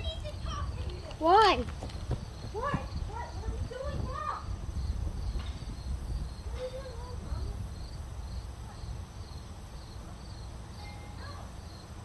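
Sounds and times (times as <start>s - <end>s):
constant low rumble: 0.0s - 12.0s
crickets chirping: 0.0s - 12.0s.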